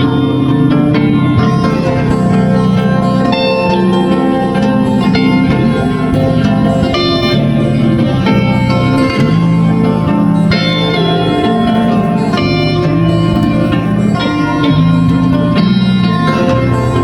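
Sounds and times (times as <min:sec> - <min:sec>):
plucked string instrumental music: 0:00.0 - 0:17.0.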